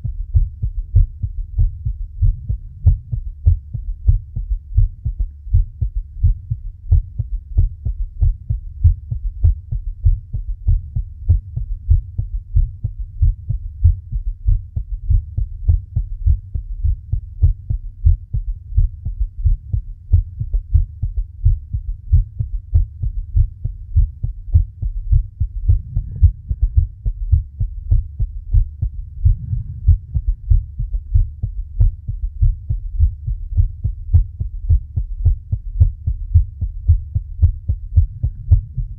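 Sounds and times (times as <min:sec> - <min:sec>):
rapid heartbeat: 0:00.0 - 0:38.9.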